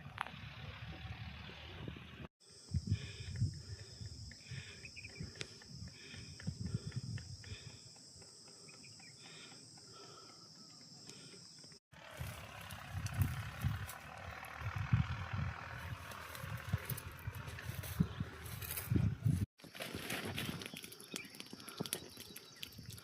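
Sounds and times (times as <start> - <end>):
insects droning: 2.4 - 23.0.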